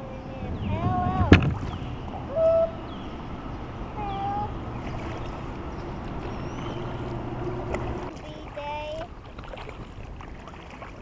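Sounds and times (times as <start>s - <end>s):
kayak paddling through water: 0.0s - 11.0s.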